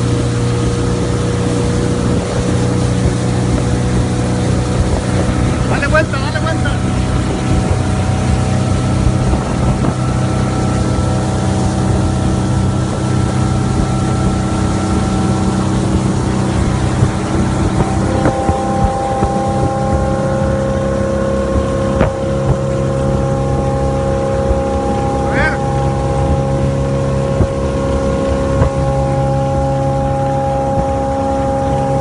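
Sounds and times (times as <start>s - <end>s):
boat engine running: 0.0s - 32.0s.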